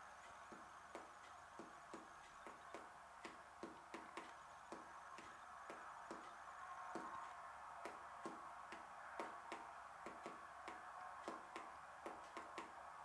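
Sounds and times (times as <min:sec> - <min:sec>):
low hiss: 0:00.0 - 0:13.0
pen tapping touchscreen: 0:00.3 - 0:12.8.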